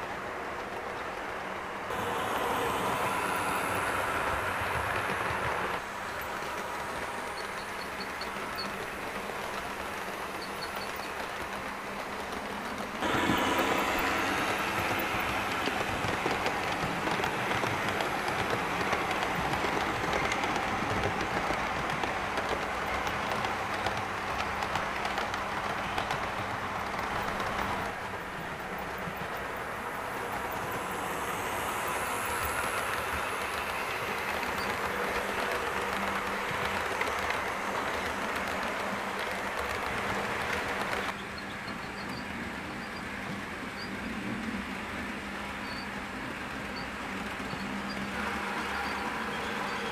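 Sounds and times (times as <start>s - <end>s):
model train coaches rolling: 0.0s - 49.9s
wheels clicking over rail joints: 0.5s - 45.0s.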